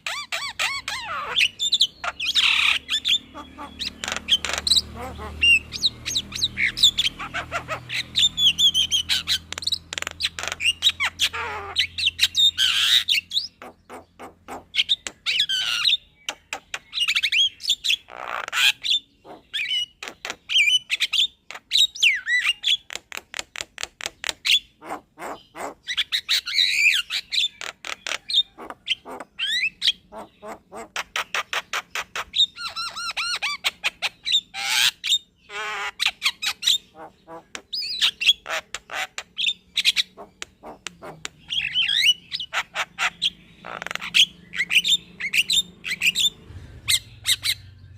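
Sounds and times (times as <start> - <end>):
myna bird singing: 0.0 - 47.9.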